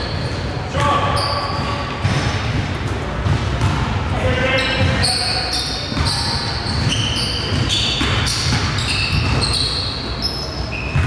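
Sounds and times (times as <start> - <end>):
shoes squeaking: 0.0 - 2.3, 4.4 - 11.0
basketball bouncing on court: 0.8 - 10.2, 10.8 - 11.0.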